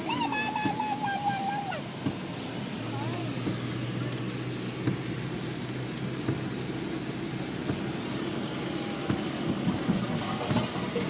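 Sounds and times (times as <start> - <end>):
constant rushing sound: 0.0 - 11.0
low engine hum: 0.0 - 11.0.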